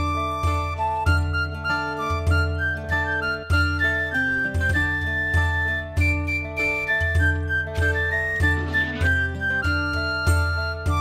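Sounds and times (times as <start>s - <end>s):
held melody notes: 0.0s - 11.0s.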